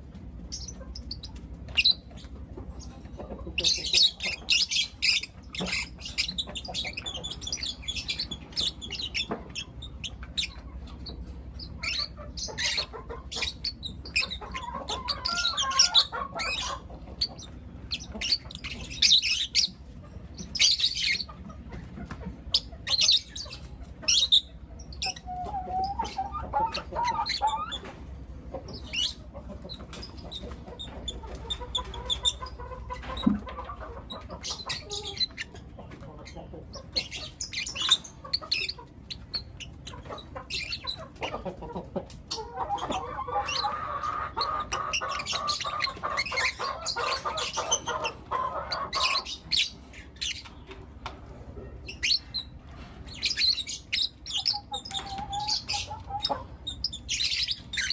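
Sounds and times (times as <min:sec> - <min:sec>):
lovebirds warbling chatter: 0:00.1 - 0:57.9
lovebirds chirping: 0:00.4 - 0:50.8, 0:51.8 - 0:57.9.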